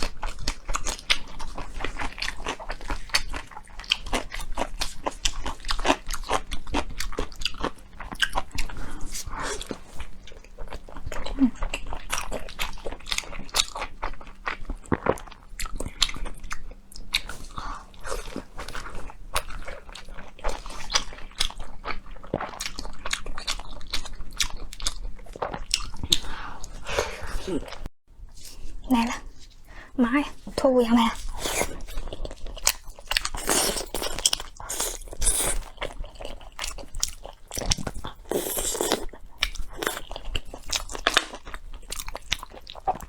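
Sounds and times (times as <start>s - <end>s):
person chewing crunchy food: 0.0s - 29.7s, 30.4s - 43.0s.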